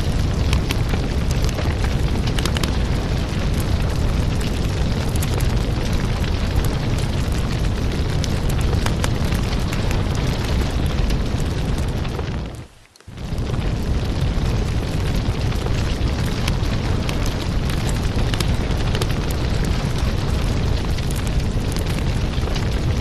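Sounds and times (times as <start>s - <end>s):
burning wood crackling and popping: 0.0s - 23.0s
low rumble of flames: 0.0s - 23.0s.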